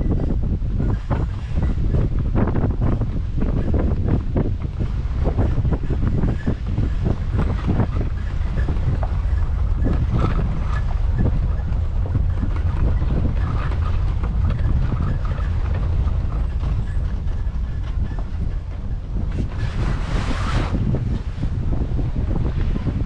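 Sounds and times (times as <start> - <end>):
light clatter: 0.0 - 23.0
wind buffeting microphone: 0.0 - 23.0.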